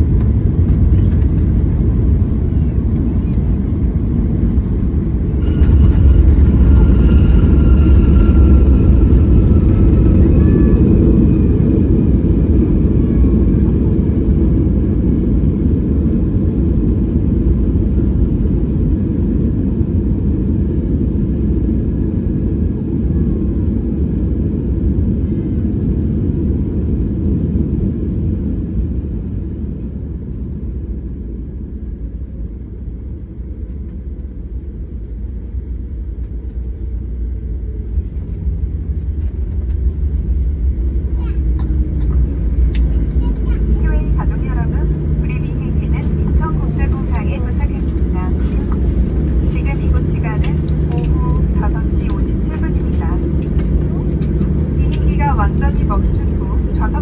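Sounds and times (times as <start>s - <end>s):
jet engine rumble in cabin: 0.0s - 57.0s
jet engine whine: 0.0s - 57.0s.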